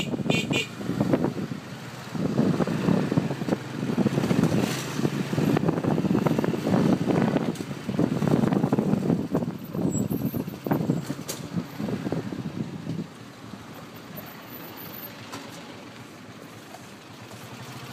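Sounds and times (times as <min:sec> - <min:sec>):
motorcycle engine and road noise: 0:00.0 - 0:17.9.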